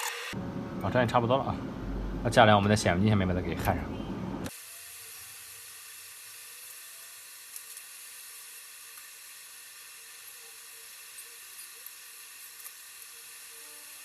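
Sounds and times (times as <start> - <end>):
faint steady hiss: 2.4 - 14.0.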